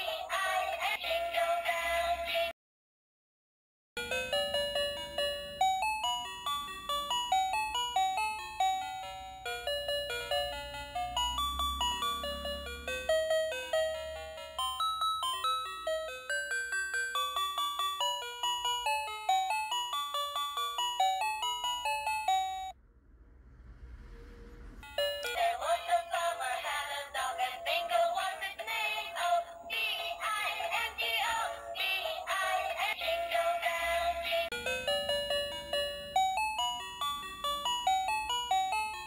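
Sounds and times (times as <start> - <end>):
toy playing tinny electronic melody: 4.0 - 22.8, 24.8 - 39.0.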